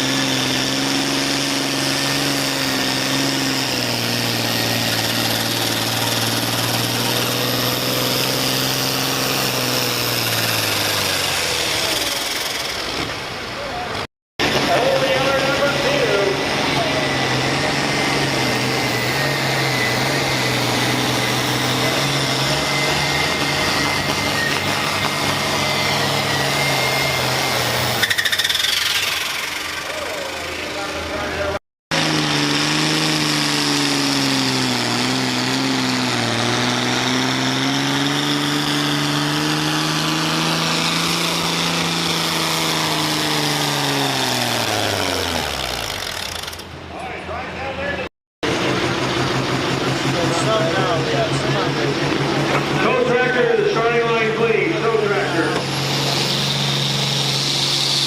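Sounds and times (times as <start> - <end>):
tractor engine running hard: 0.0 - 58.0.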